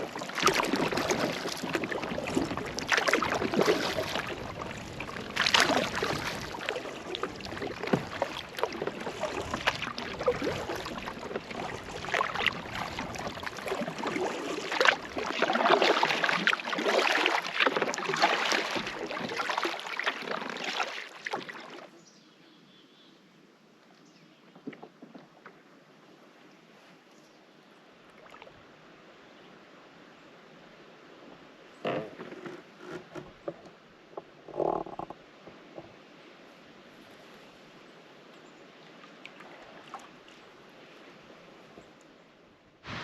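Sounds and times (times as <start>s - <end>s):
water sloshing against hull: 0.0s - 22.0s, 24.4s - 27.1s, 28.0s - 43.0s
paddle splashes: 0.0s - 22.1s, 24.5s - 27.0s, 27.9s - 43.0s.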